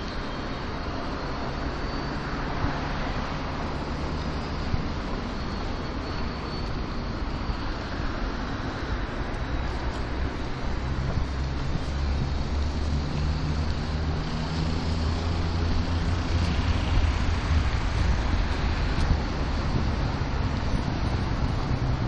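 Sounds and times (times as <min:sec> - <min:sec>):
city road traffic: 0:00.0 - 0:22.0.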